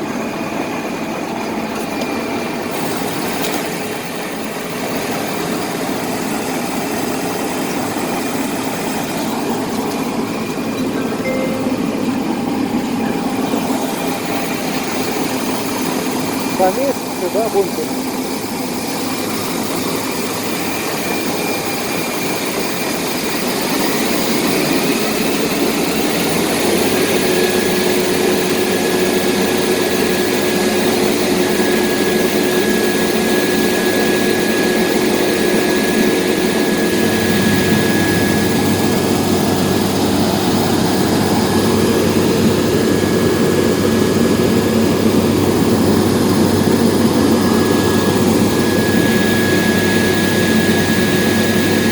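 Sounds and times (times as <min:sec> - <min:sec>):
combine harvester machinery drone: 0:00.0 - 0:51.9
steady whine: 0:00.0 - 0:51.9.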